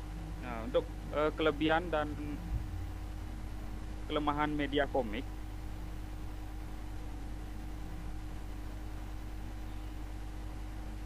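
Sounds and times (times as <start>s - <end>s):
faint steady tone: 0.0s - 11.0s
low electrical hum: 0.0s - 11.0s.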